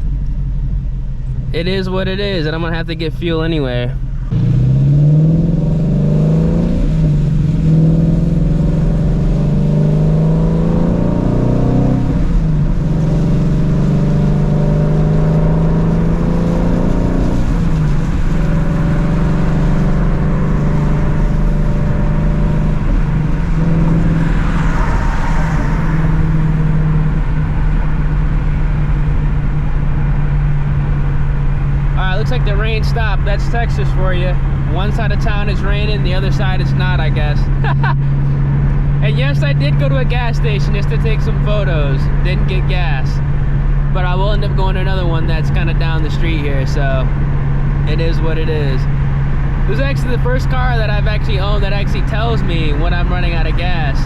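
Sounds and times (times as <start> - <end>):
car exhaust while driving: 0.0 - 54.0
tyre and road noise: 0.0 - 54.0.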